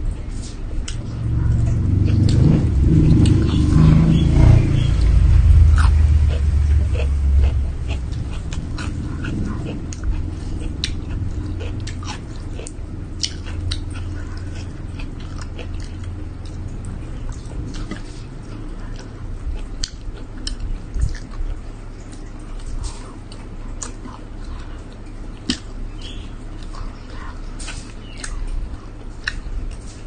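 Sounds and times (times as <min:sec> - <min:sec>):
low steady hum: 0:00.0 - 0:30.0
person chewing: 0:00.0 - 0:30.0.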